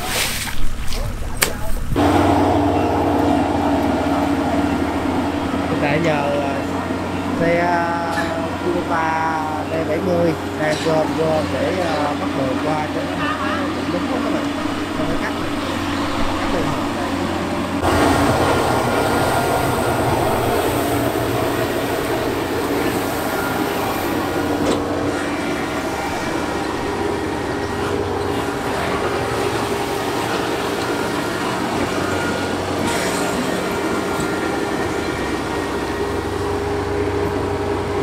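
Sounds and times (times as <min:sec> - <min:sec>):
combine harvester running: 0:00.1 - 0:38.0.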